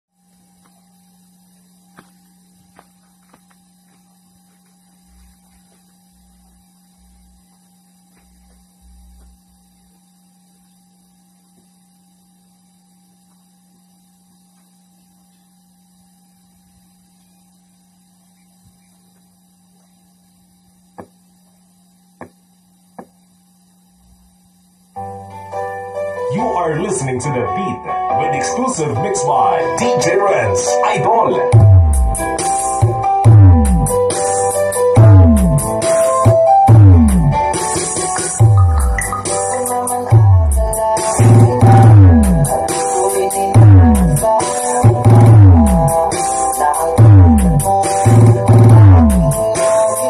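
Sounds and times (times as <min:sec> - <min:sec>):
speaker electrical hum: 0:00.1 - 0:50.0.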